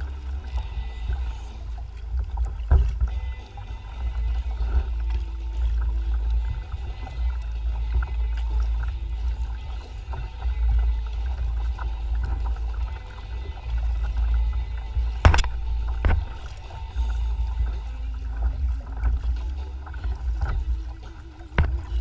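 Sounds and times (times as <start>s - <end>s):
water splashing against hull: 0.0s - 22.0s.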